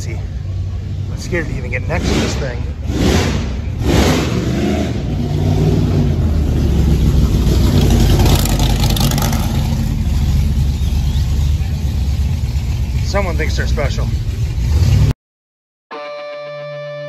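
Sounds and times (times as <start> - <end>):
car engine revving: 0.2 - 15.1.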